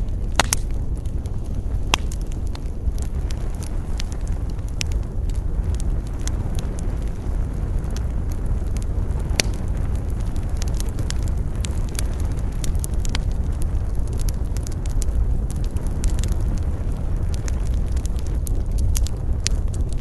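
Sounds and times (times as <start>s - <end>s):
campfire crackling and popping: 0.0s - 20.0s
low rumble of wind: 0.0s - 20.0s.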